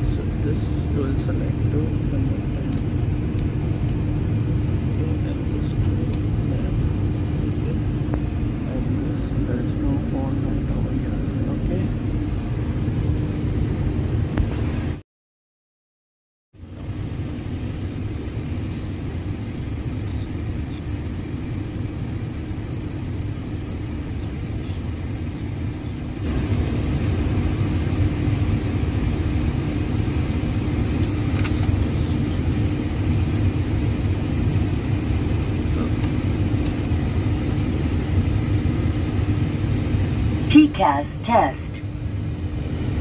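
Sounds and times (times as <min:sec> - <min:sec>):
cockpit rumble and hiss: 0:00.0 - 0:15.0, 0:16.6 - 0:43.0
steady hum: 0:00.0 - 0:15.0, 0:16.6 - 0:43.0.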